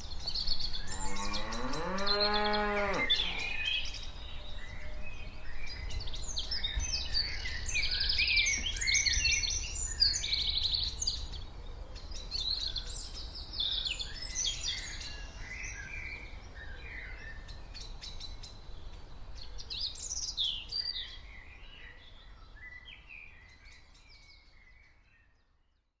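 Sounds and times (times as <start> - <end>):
small birds chirping and singing: 0.0 - 25.4.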